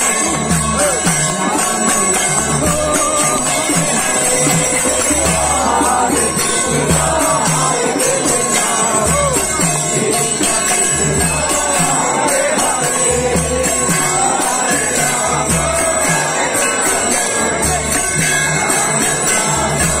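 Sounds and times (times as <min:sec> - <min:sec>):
crowd chanting: 0:00.0 - 0:20.0
hand cymbals ringing: 0:00.0 - 0:20.0.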